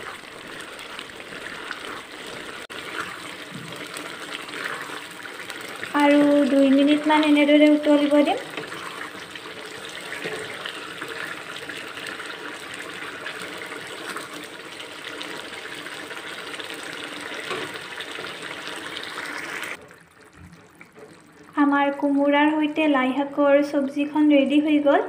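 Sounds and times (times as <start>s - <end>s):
wooden spatula stirring: 0.0s - 21.4s
curry bubbling in a wok: 0.0s - 22.8s.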